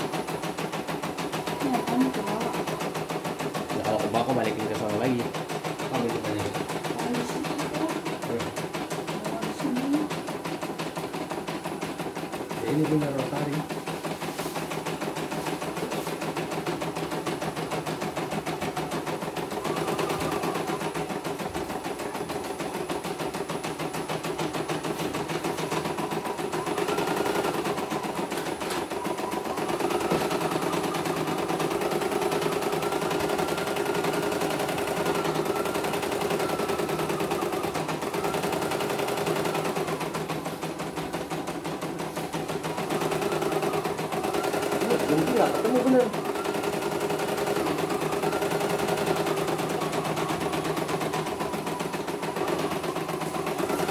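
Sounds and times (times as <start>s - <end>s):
embroidery machine needle clatter: 0.0s - 53.9s.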